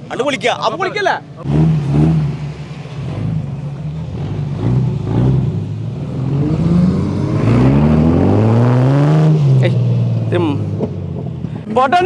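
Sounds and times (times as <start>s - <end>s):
car engine revving: 1.4s - 11.7s.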